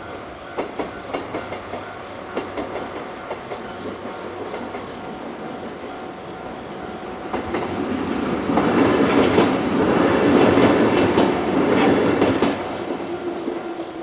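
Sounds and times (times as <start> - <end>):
electric train passing: 0.0 - 14.0
wheels clacking over rail joints: 0.0 - 14.0.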